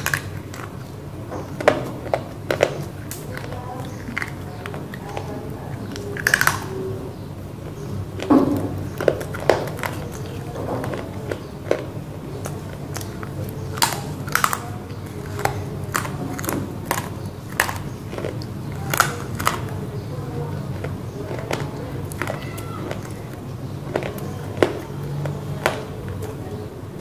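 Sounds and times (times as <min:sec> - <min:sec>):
crunching and chewing: 0:00.0 - 0:27.0.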